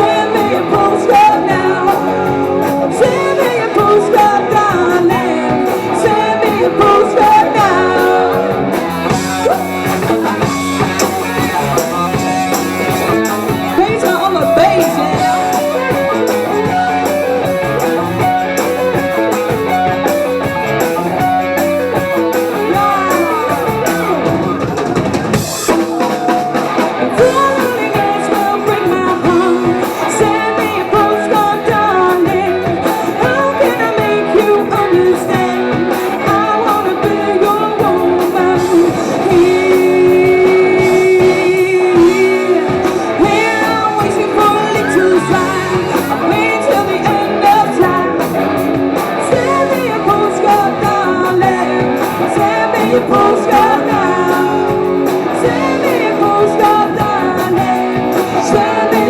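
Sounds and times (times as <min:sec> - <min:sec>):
drum kit: 0:00.0 - 0:59.0
electric guitar: 0:00.0 - 0:59.0
person singing lead vocal: 0:00.0 - 0:59.0.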